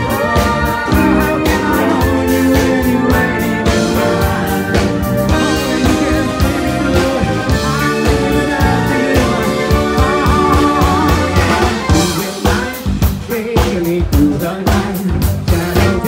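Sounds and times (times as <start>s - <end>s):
drums steady beat: 0.0s - 16.0s
rock band playing: 0.0s - 16.0s.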